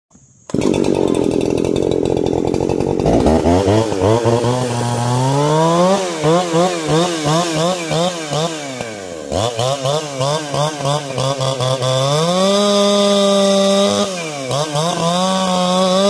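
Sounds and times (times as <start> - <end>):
chainsaw engine revving: 0.5 - 16.0.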